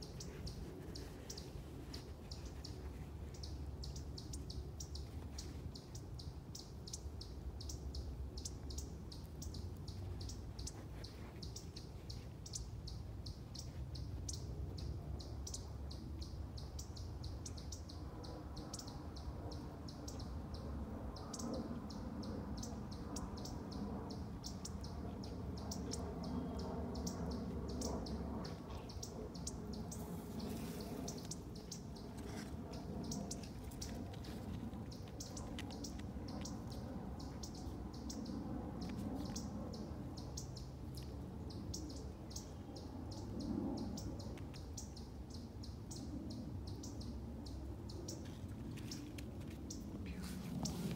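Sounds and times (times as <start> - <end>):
small birds chirping: 0.0 - 50.9
steady low rumble: 0.0 - 50.9.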